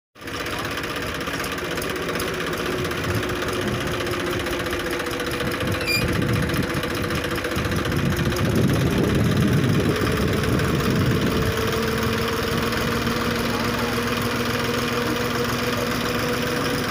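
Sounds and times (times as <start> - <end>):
tractor diesel engine running: 0.2 - 16.9.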